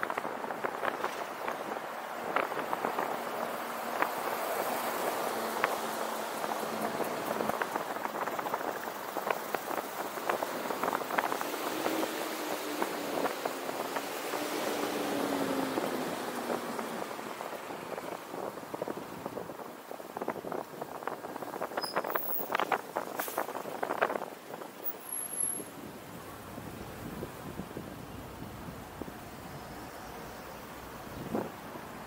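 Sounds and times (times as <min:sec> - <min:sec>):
road hiss with ticks and crackles: 0:00.0 - 0:32.0.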